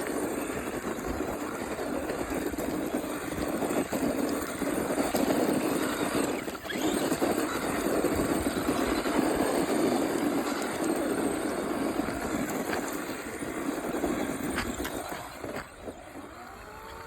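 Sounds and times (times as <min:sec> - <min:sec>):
radio-controlled car whirring: 0:00.0 - 0:17.0.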